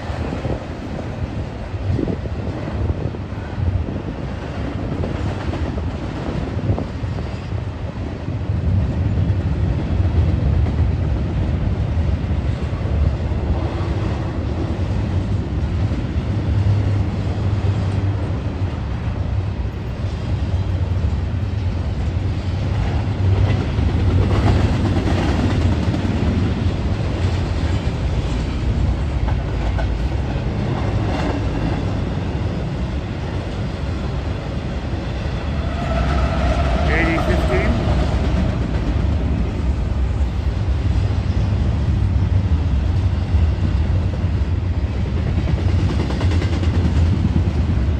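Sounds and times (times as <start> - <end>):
train clatter: 0.0 - 47.9
train wheels rumbling on rails: 0.0 - 47.9.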